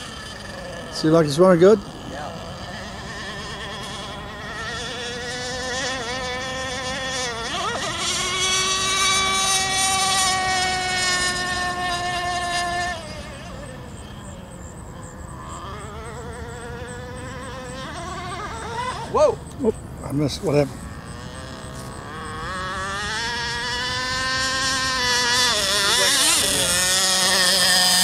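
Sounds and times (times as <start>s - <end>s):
model boat nitro engine racing: 0.0s - 28.0s.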